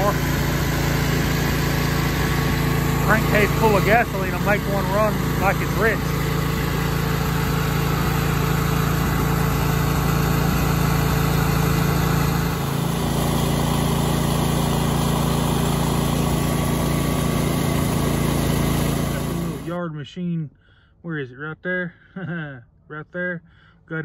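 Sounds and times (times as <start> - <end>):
mower engine humming: 0.0 - 19.8.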